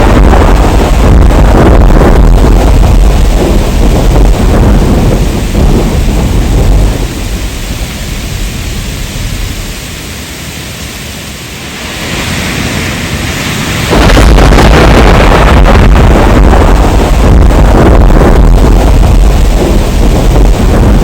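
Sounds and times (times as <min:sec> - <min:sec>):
rain falling: 0:00.0 - 0:21.0
thunder rumble: 0:00.0 - 0:21.0.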